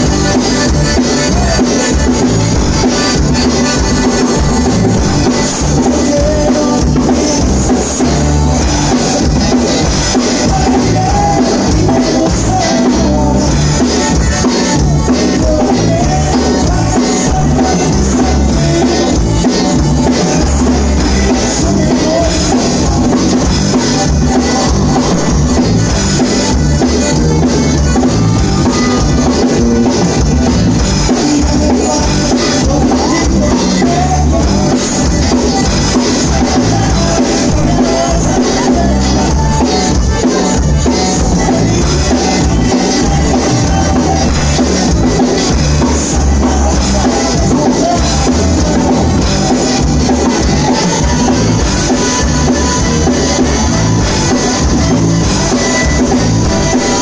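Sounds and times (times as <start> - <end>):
bass guitar: 0.0 - 57.0
button accordion melody: 0.0 - 57.0
drum kit dance beat: 0.0 - 57.0
twelve-string guitar: 0.0 - 57.0.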